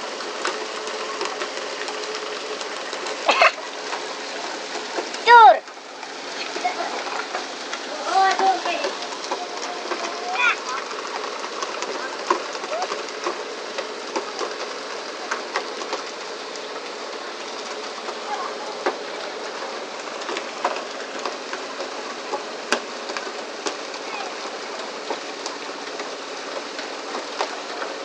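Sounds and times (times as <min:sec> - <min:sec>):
water spray splashing on hull: 0:00.0 - 0:28.0.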